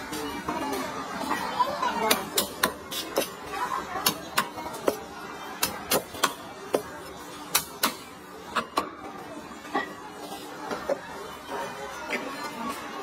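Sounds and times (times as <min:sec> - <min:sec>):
background chatter: 0:00.0 - 0:13.0.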